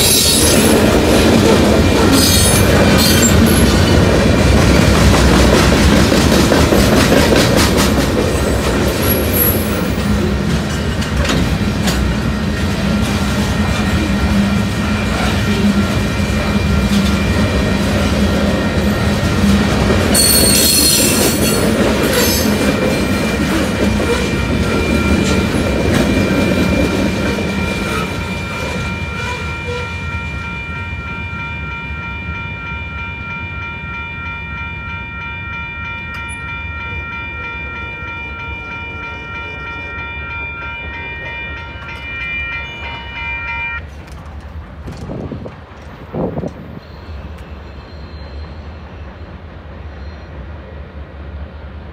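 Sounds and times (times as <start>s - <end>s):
crossing warning bell ringing: 0.0s - 44.0s, 46.2s - 50.6s
freight train rumbling past: 0.0s - 51.9s.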